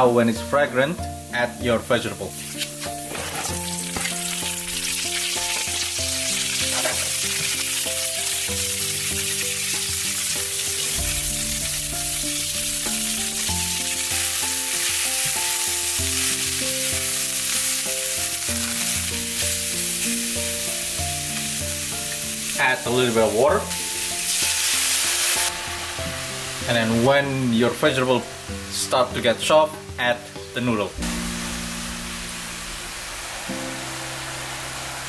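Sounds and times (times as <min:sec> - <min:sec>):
background music with bass line: 0:00.0 - 0:35.0
vegetables sizzling in hot oil: 0:02.2 - 0:35.0.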